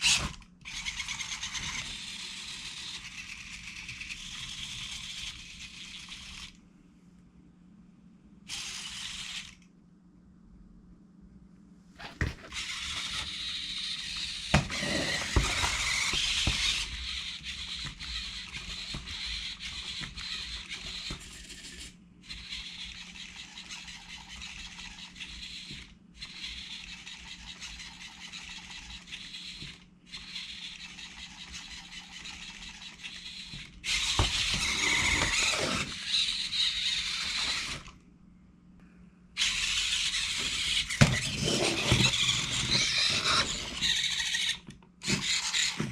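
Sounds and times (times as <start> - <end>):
electric motors whirring and squealing: 0.0 - 6.6, 8.5 - 9.6, 12.0 - 38.0, 39.4 - 45.9.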